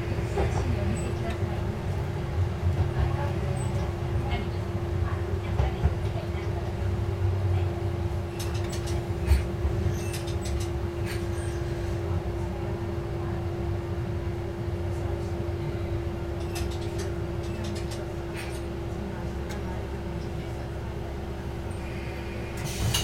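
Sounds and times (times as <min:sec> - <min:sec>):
railcar low rumble and hum: 0:00.0 - 0:23.0.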